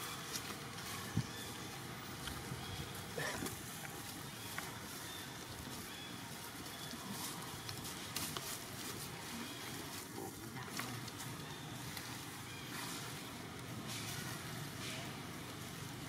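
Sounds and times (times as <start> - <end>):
crackles and clicks of leaves: 0.0 - 16.0
steady forest hiss: 0.0 - 16.0.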